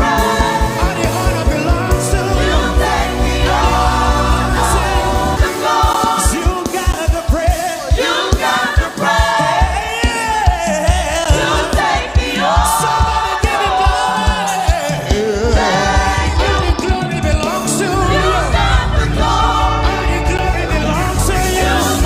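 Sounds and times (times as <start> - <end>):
gospel choir singing with band: 0.0 - 22.0.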